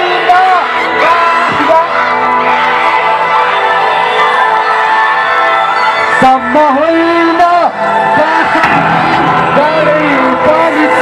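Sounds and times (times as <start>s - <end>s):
crowd noise: 0.0s - 11.0s
loud music: 0.0s - 11.0s.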